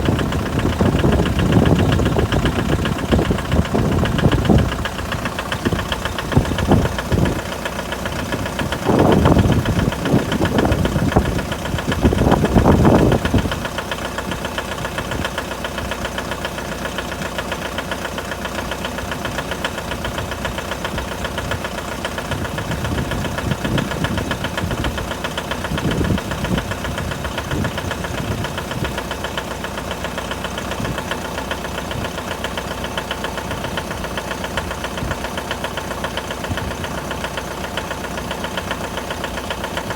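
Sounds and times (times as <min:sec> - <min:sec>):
diesel engine idling with knocking: 0:00.0 - 0:39.9.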